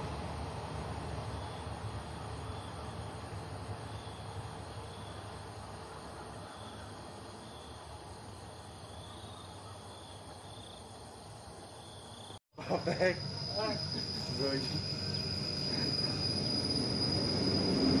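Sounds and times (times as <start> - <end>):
low rumble of diesel train: 0.0 - 18.0
faint insect chirps: 1.2 - 18.0.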